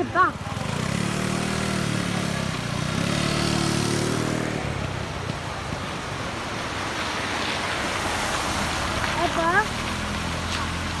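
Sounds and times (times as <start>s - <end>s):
rushing water and spray: 0.0s - 11.0s.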